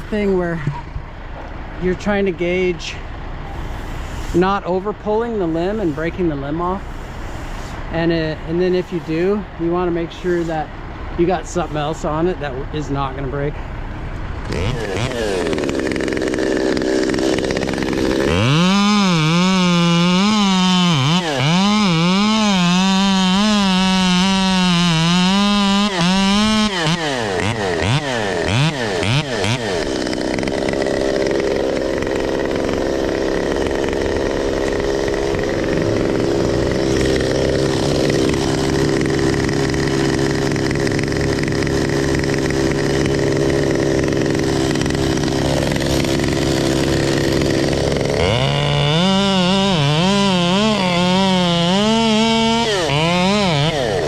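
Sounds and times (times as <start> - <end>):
engine running steadily: 0.0 - 54.0
chainsaw cutting at full throttle: 1.7 - 54.0.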